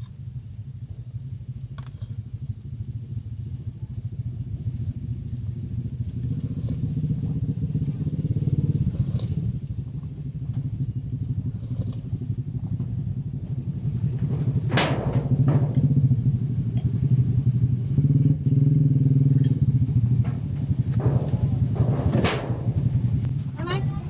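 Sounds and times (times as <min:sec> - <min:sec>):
small engine running: 0:01.8 - 0:24.0.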